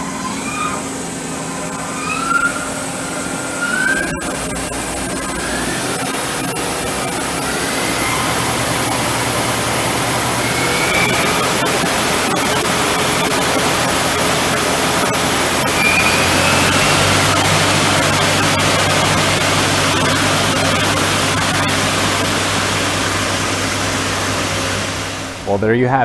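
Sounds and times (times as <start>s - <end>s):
lathe mechanical hiss: 0.0s - 25.6s
short rising whines: 0.0s - 25.6s
low hum: 0.0s - 26.0s.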